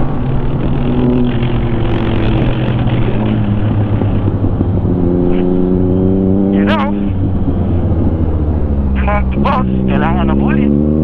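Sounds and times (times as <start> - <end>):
motorcycle engine running: 0.0 - 11.0
rushing wind noise: 0.0 - 11.0.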